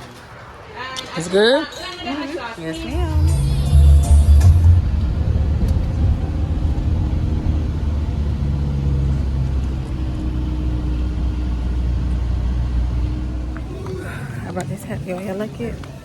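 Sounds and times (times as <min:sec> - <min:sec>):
motor vehicle engine rumble: 0:02.6 - 0:16.0.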